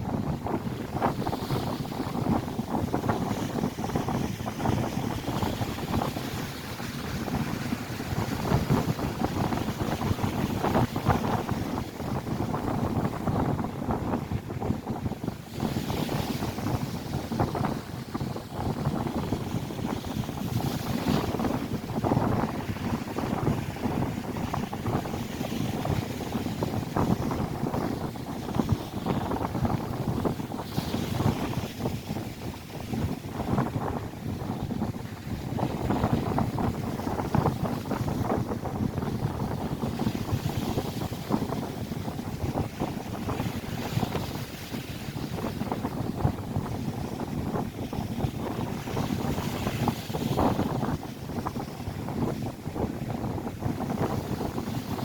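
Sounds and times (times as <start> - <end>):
lake waves breaking on shore: 0.0 - 55.0
wind buffeting microphone: 0.0 - 55.0.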